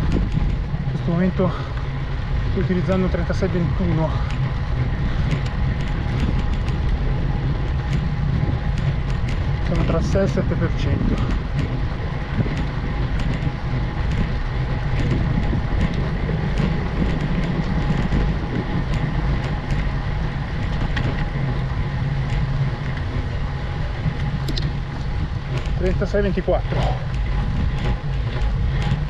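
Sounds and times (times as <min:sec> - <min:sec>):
bike tyres rolling on tarmac: 0:00.0 - 0:29.0
wind on microphone: 0:00.0 - 0:29.0.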